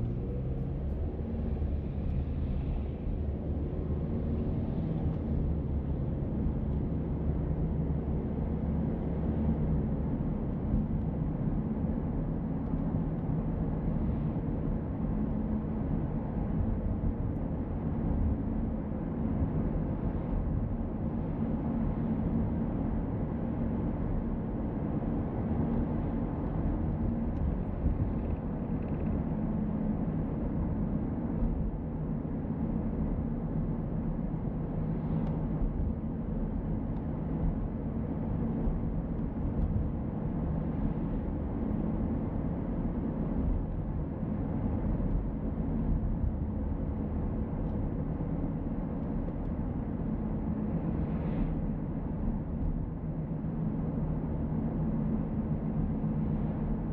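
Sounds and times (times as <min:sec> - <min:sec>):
road and engine noise inside car: 0:00.0 - 0:56.9.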